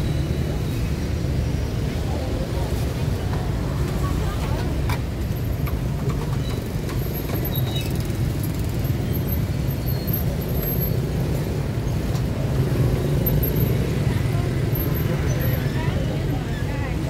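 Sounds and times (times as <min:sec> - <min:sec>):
low rumble of street noise: 0:00.0 - 0:17.0.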